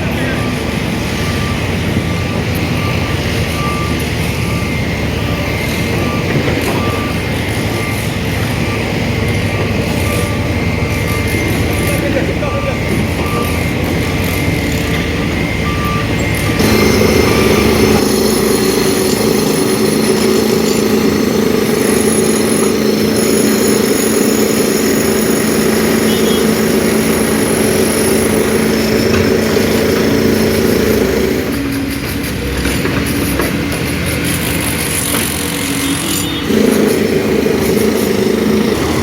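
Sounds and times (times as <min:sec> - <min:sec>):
dump truck engine running: 0:00.0 - 0:39.0
reversing alarm beeping: 0:00.0 - 0:39.0.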